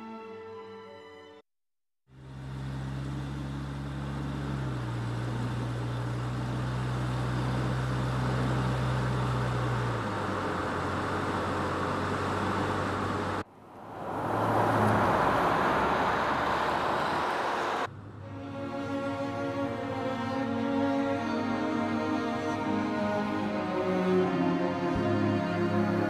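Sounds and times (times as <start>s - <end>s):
rushing road and traffic noise: 2.1s - 26.0s
car engine humming: 2.2s - 26.0s.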